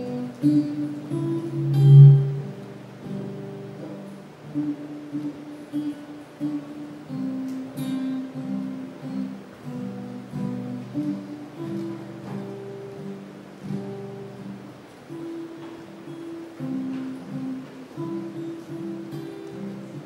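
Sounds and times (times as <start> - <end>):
plucked guitar melody: 0.0 - 20.0
strummed acoustic guitar: 0.0 - 20.0.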